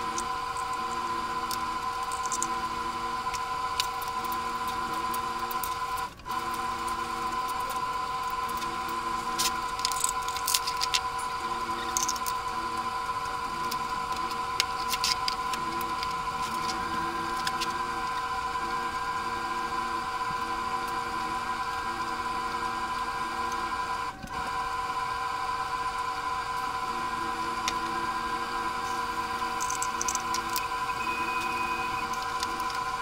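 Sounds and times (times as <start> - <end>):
droning mechanical hum: 0.0 - 33.0.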